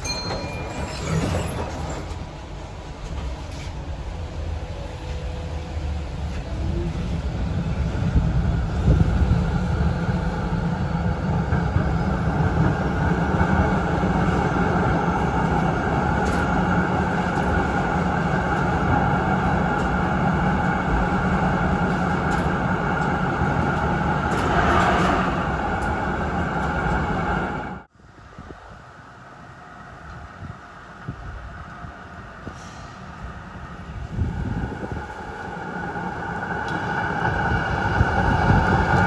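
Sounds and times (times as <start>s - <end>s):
tram wheels rumbling on rail: 0.0s - 39.0s.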